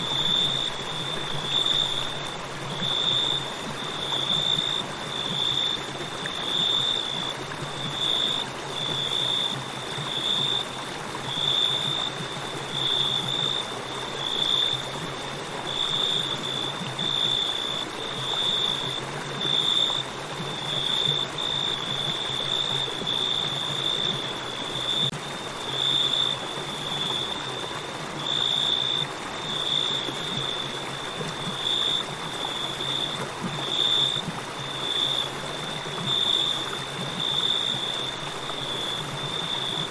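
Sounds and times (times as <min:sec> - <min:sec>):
crickets chirping: 0:00.0 - 0:39.9
river water flowing: 0:00.0 - 0:39.9.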